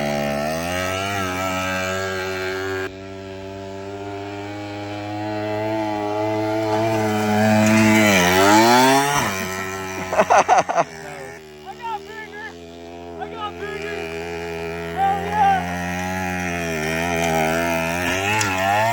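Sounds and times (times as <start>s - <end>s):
mini bike engine revving: 0.0s - 18.9s.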